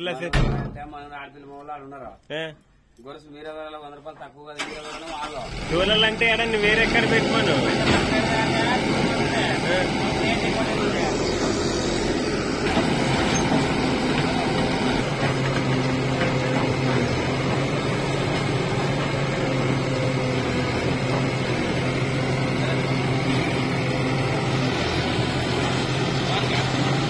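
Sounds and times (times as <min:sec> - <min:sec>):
diesel engines humming: 0:04.6 - 0:27.0.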